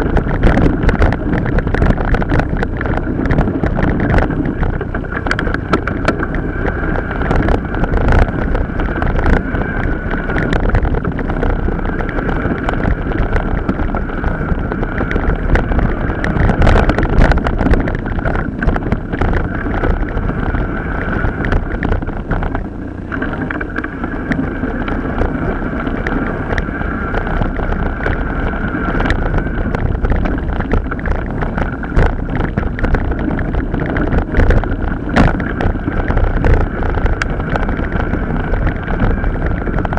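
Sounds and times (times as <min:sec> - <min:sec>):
mountain bike rattling: 0:00.0 - 0:39.9
steady whine: 0:00.0 - 0:39.9
wind buffeting microphone: 0:00.0 - 0:39.9.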